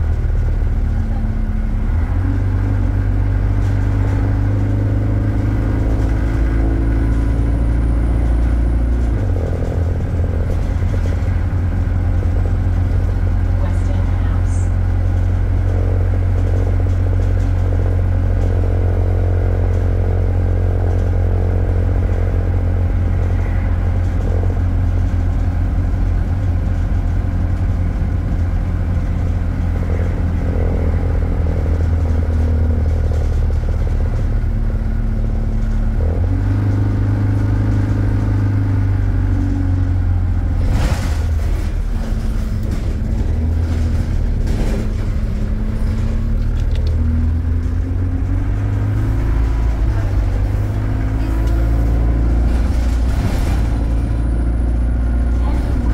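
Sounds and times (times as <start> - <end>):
bus body rattling: 0.0 - 55.9
bus diesel engine droning: 0.0 - 55.9.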